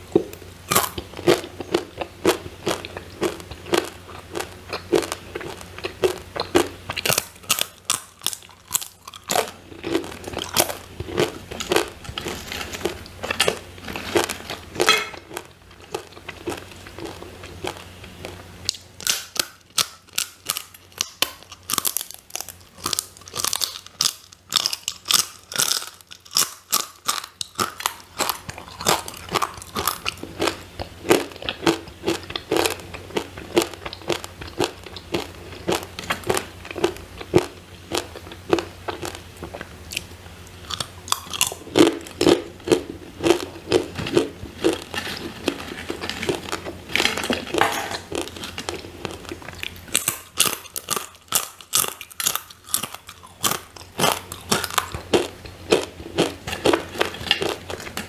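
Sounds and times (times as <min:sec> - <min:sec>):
chips crunching while chewed: 0:00.7 - 0:58.0.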